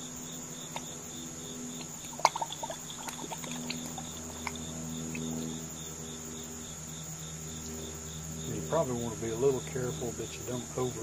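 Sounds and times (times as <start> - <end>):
crickets chirping: 0.0 - 11.0
low steady hum: 0.0 - 11.0.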